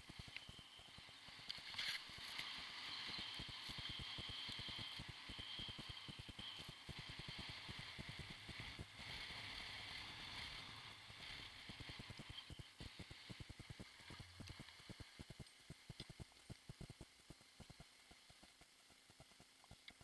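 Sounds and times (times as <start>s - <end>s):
skis sliding on snow: 0.0s - 16.3s.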